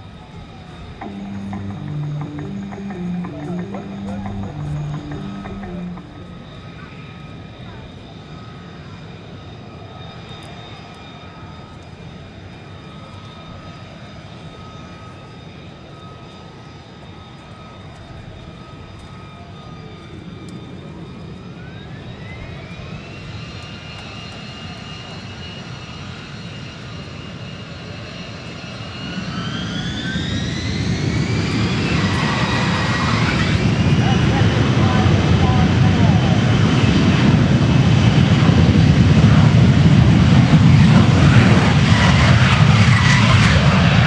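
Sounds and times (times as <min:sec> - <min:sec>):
jet engine rumble and whine: 0:00.0 - 0:44.0.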